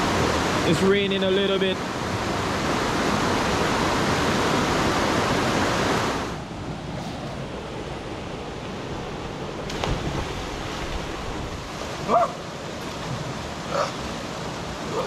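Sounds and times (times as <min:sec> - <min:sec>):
river water flowing over rocks: 0:00.0 - 0:15.0.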